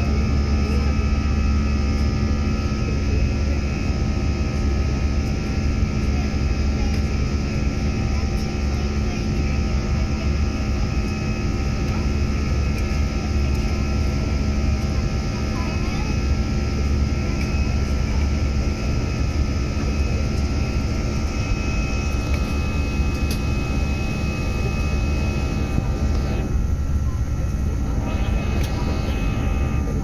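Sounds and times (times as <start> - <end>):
airliner engines droning: 0.0 - 30.0
constant hums: 0.0 - 30.0.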